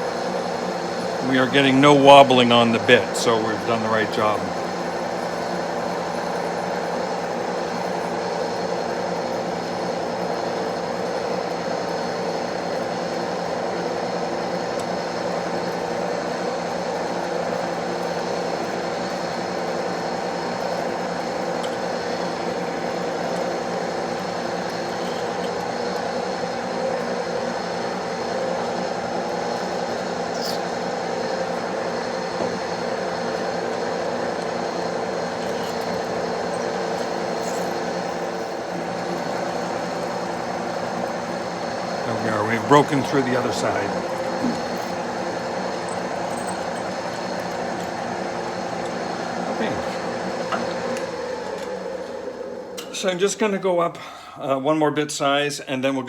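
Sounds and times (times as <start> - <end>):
metal lathe humming: 0.0 - 53.7.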